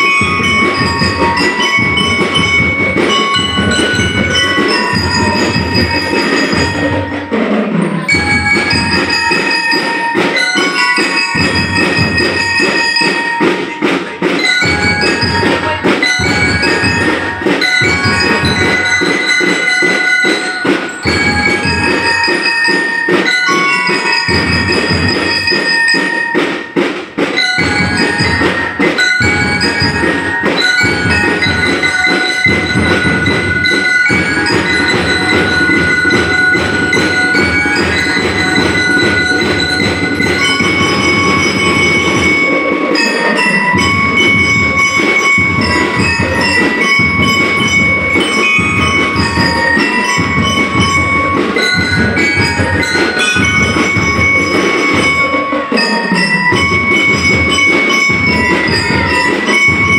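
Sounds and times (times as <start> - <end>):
bell lyres ringing melody: 0.0 - 59.9
drum strokes: 0.0 - 59.9.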